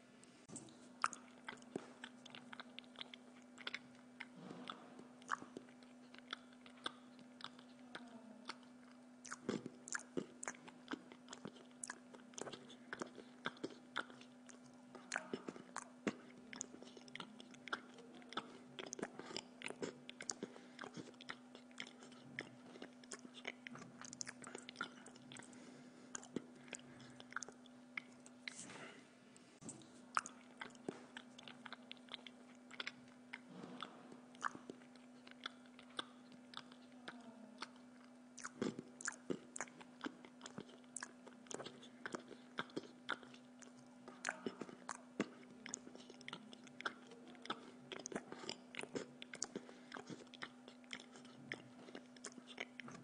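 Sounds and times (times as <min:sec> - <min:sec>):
faint steady hum: 0:00.0 - 0:53.0
person chewing crunchy bread: 0:00.4 - 0:29.0, 0:29.6 - 0:53.0.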